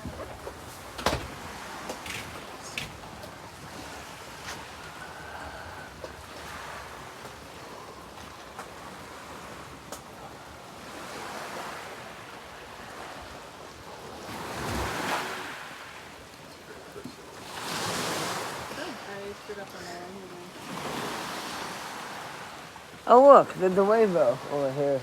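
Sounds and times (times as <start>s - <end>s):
waves washing in: 0.0s - 25.0s.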